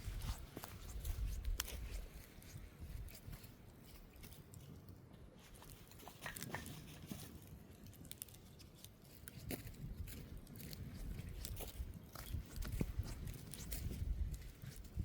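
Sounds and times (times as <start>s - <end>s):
campfire crackling and popping: 0.0s - 4.9s, 5.5s - 15.0s.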